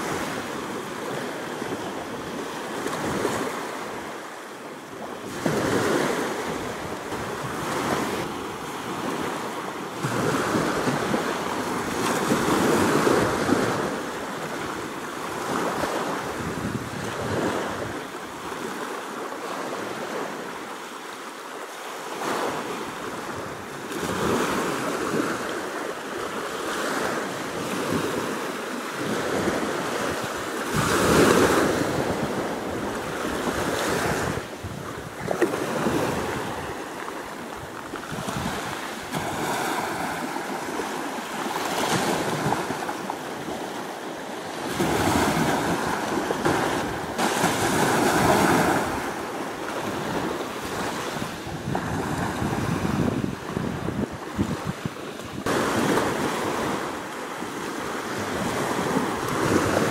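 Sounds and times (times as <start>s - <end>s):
small waves breaking on sand: 0.0s - 59.9s.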